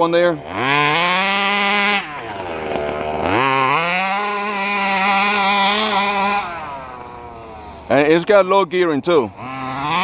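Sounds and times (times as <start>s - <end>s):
model engine revving: 0.1s - 8.2s, 9.2s - 10.0s.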